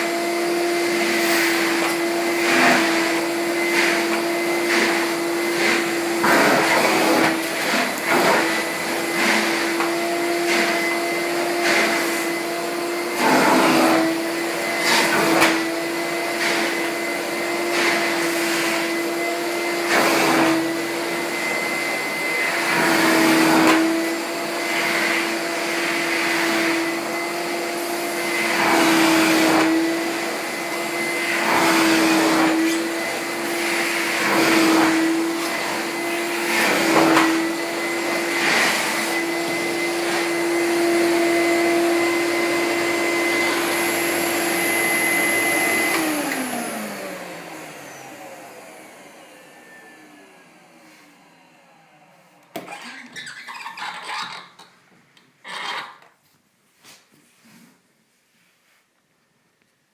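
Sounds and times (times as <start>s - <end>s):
vacuum cleaner running: 0.0s - 54.3s.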